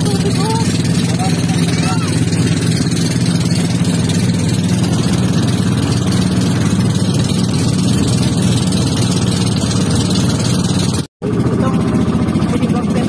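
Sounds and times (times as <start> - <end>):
boat engine running: 0.0 - 13.0
water rushing past hull: 0.0 - 13.0.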